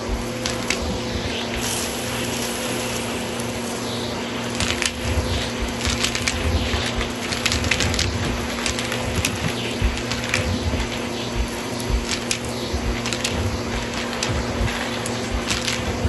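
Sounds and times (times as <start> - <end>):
grains crackling in vacuum: 0.0 - 16.0
vacuum cleaner motor hum: 0.0 - 16.0.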